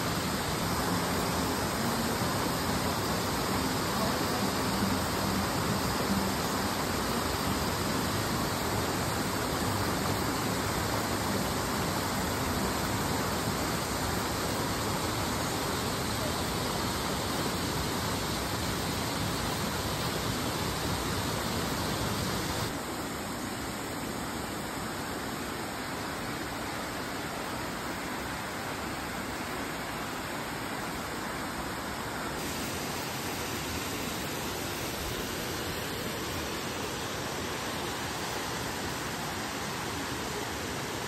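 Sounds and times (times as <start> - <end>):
water rushing over rocks: 0.0 - 41.0.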